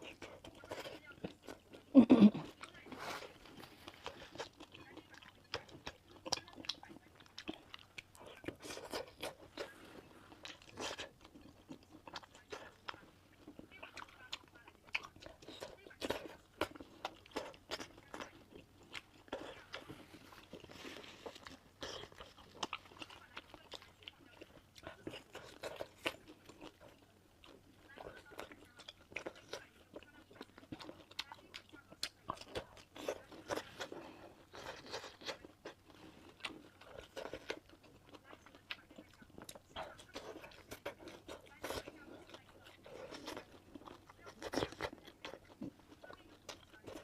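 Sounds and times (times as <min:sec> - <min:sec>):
person chewing sticky food: 0:00.0 - 0:47.0.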